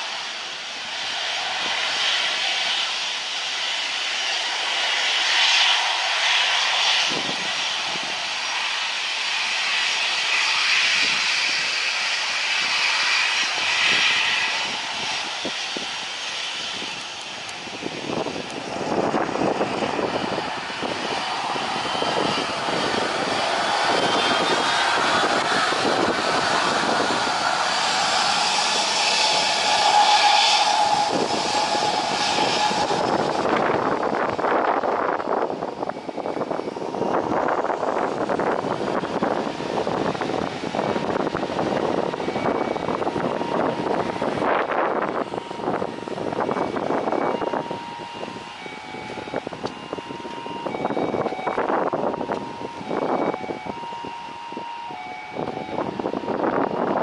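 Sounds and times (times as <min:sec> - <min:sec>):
deep rumble: 0:00.0 - 0:53.6
jet engines whining: 0:00.0 - 0:57.0.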